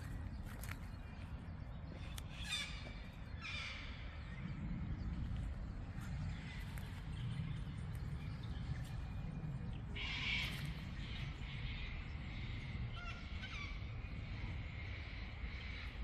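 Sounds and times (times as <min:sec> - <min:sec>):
forest birds calling: 0:00.0 - 0:16.0
steady low rumble: 0:00.0 - 0:16.0.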